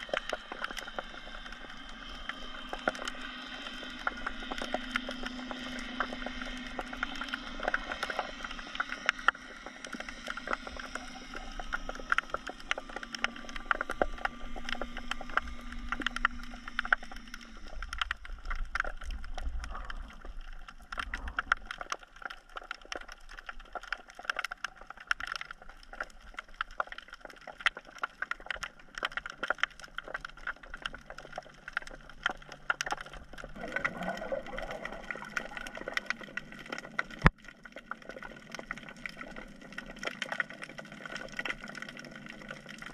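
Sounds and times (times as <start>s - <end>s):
low rumble of water: 0.0s - 42.9s
steady underwater hum: 0.0s - 42.9s
underwater crackle of clicks: 0.0s - 42.9s.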